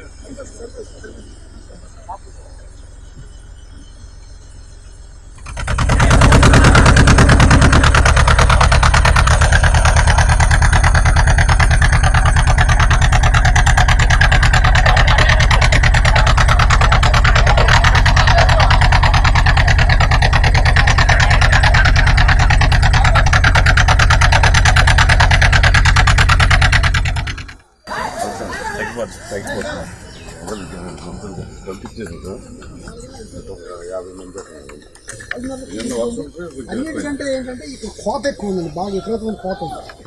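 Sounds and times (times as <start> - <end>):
boat motor running: 0.0 - 36.1.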